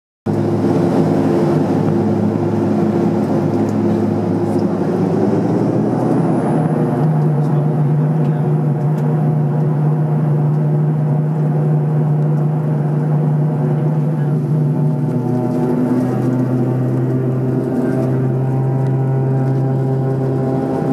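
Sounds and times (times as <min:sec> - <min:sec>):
high whine: 0:00.3 - 0:20.9
turboprop engines droning: 0:00.3 - 0:20.9.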